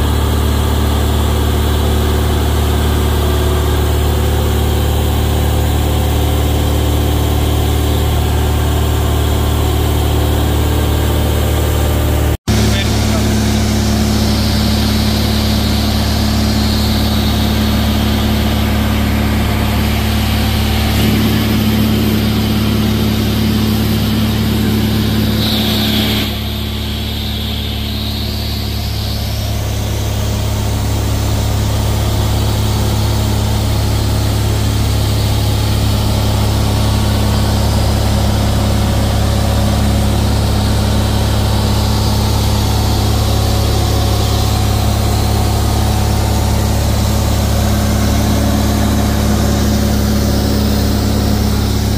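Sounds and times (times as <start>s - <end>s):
propeller plane engine droning: 0.0s - 51.9s.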